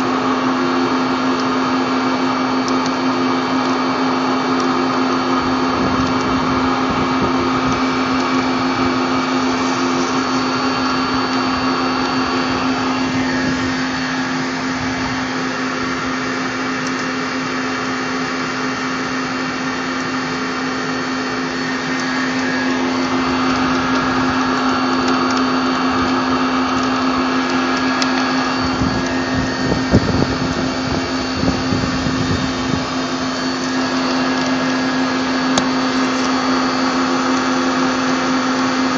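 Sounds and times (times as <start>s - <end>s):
lathe humming and whining: 0.0s - 38.9s.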